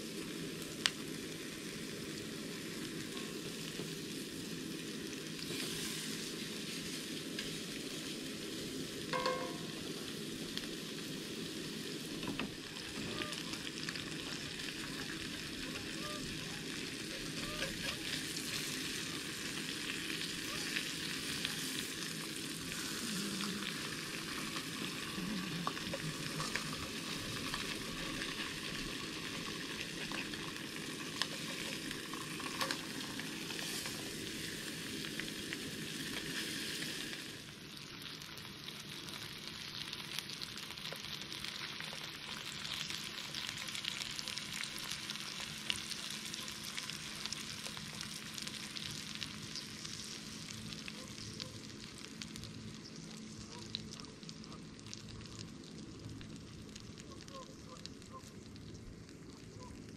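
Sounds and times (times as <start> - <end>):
fish frying sizzle: 0.0 - 59.9.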